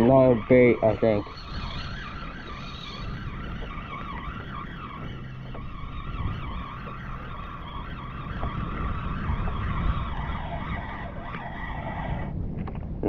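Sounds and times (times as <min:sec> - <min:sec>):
fishing reel whirring: 0:00.0 - 0:12.4
water: 0:00.0 - 0:13.0
wind on microphone: 0:00.0 - 0:13.0.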